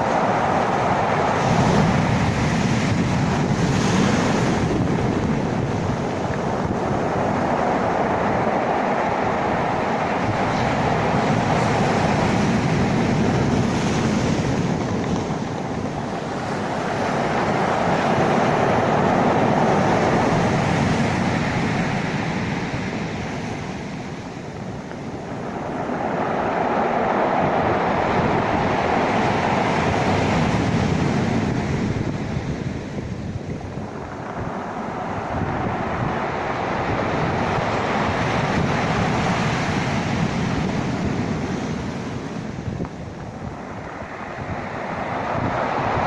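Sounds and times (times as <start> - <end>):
sea waves washing in: 0.0 - 46.0
wind noise on microphone: 0.0 - 46.0.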